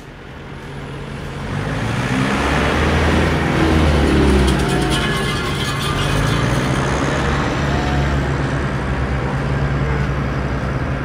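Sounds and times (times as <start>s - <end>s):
tractor engine rumble: 0.0s - 11.0s.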